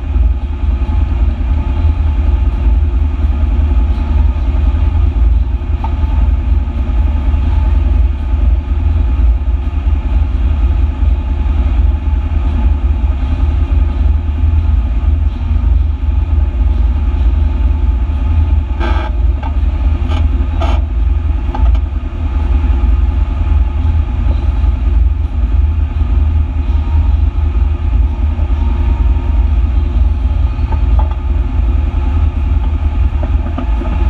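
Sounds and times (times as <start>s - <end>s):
vehicle engine idling: 0.0s - 34.0s.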